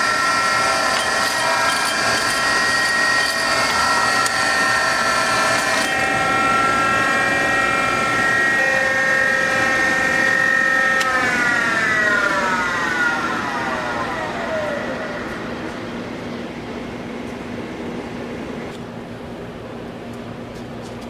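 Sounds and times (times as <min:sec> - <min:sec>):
grinder motor whine: 0:00.0 - 0:18.7.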